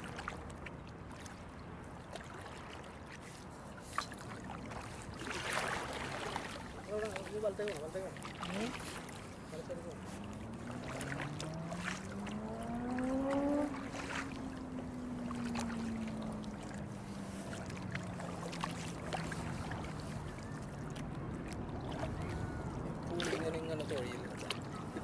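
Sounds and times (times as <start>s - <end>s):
kayak paddles splashing in water: 0.0s - 25.0s.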